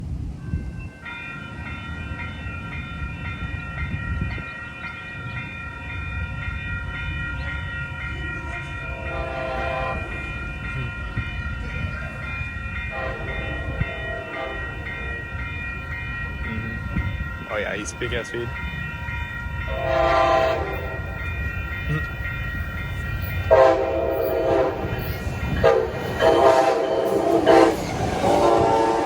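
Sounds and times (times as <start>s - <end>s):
railroad crossing bell ringing: 0.0s - 29.0s
train rumbling: 0.0s - 29.0s.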